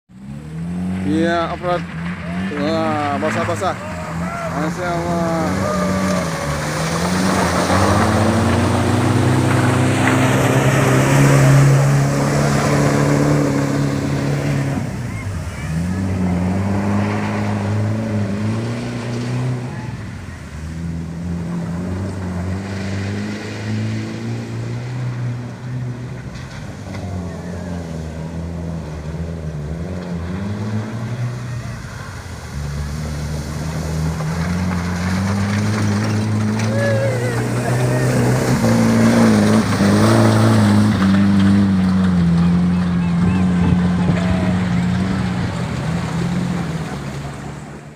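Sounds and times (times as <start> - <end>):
off-road vehicle engine under load: 0.1 - 47.9.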